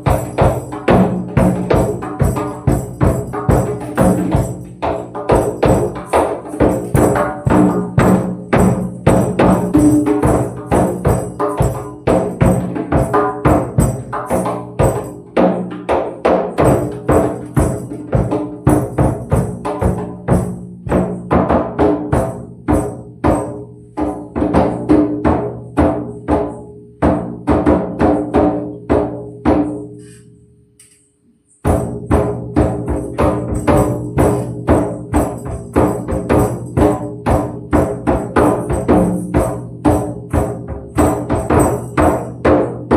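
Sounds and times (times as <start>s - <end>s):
tambourine and hand percussion: 0.0s - 42.9s.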